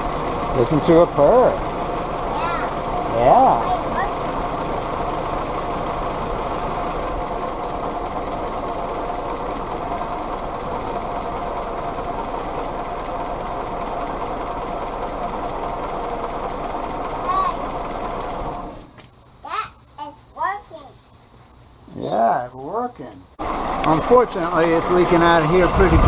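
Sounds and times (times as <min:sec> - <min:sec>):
engine idling: 0:00.0 - 0:19.9, 0:22.4 - 0:26.0.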